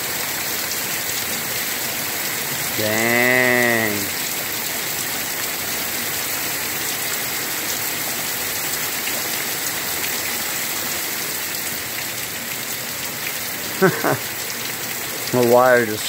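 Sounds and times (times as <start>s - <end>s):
torrential rain: 0.0s - 16.0s.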